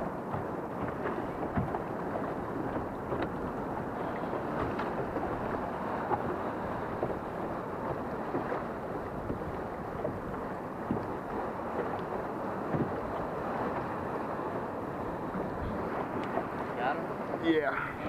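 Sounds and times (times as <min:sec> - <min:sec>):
water lapping against hull: 0:00.0 - 0:18.0
wind on microphone: 0:00.0 - 0:18.0.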